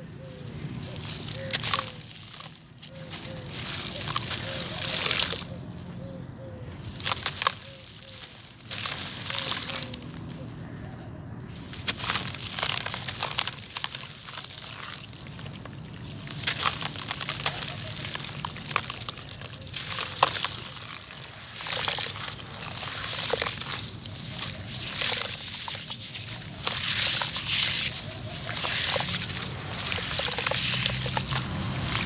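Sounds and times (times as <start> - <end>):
wet mud squelching: 0.0 - 32.0
hands crushing gritty crumbles: 0.1 - 6.0, 6.7 - 10.8, 11.5 - 32.0.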